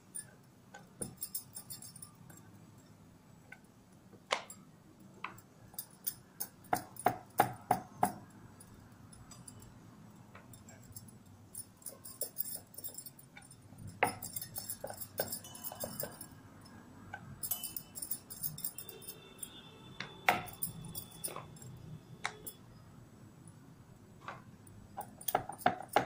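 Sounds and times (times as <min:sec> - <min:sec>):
bangles clinking: 0:00.0 - 0:03.5, 0:04.4 - 0:23.6, 0:24.2 - 0:26.0.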